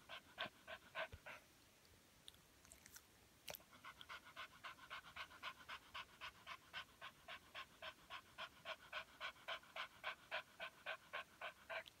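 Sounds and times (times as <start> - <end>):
dog panting rapidly: 0.0 - 1.4, 3.7 - 12.0.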